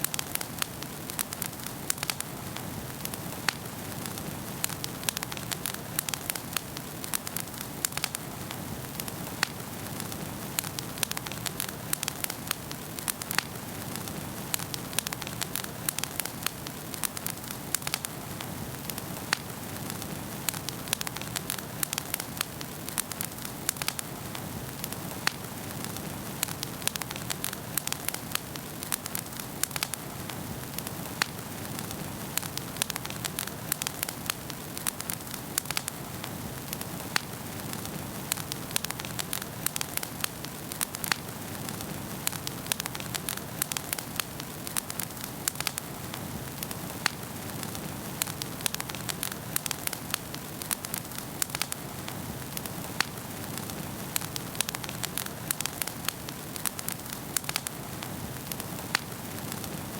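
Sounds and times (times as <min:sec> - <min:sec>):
low hiss of flames: 0:00.0 - 0:59.9
wood fire crackling and popping: 0:00.0 - 0:59.9.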